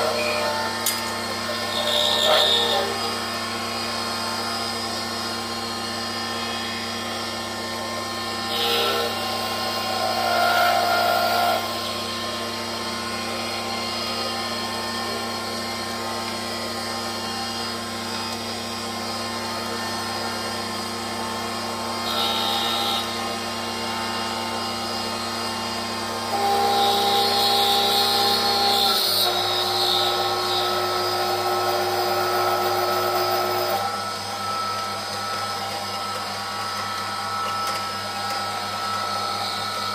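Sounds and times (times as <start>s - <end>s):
lathe motor hum and whine: 0.0s - 39.9s
lathe tool cutting metal: 0.0s - 39.9s.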